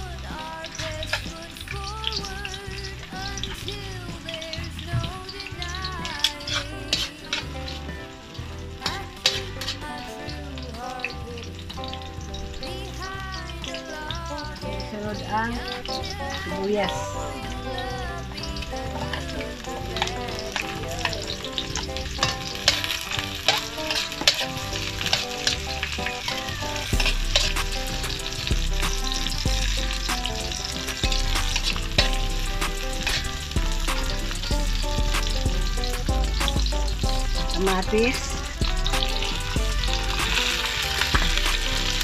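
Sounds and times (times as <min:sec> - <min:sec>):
onions sizzling in a wok: 0:00.0 - 0:42.0.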